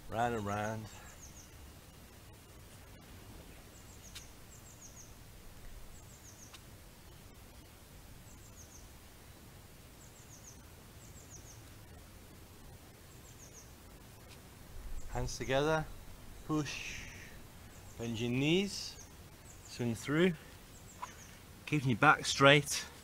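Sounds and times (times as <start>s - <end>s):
faint low rumble: 0.0s - 22.2s
small bird chirping: 0.4s - 12.0s, 12.9s - 21.5s.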